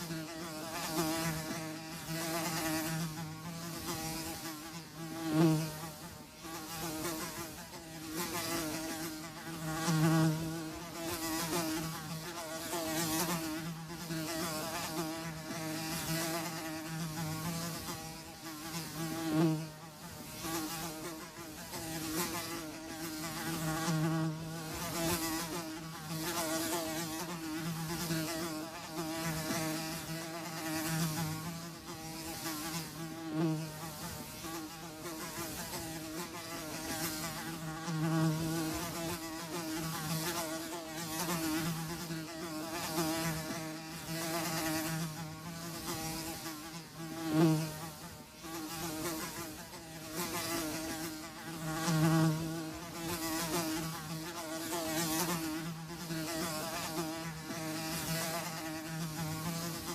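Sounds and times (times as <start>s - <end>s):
flies buzzing: 0.0s - 59.9s.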